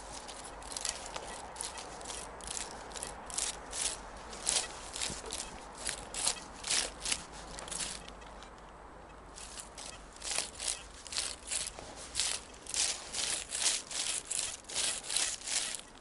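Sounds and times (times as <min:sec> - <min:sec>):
footsteps crunching through leaf litter: 0:00.0 - 0:08.2, 0:09.3 - 0:16.0.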